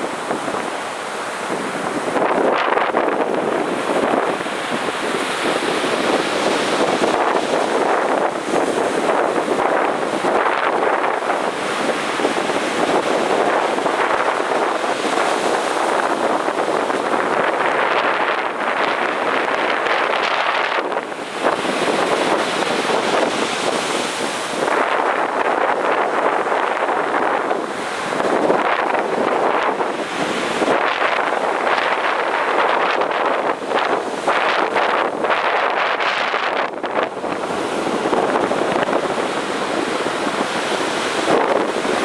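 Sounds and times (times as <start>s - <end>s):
ocean surf breaking: 0.0s - 42.0s
wind buffeting microphone: 0.0s - 42.0s.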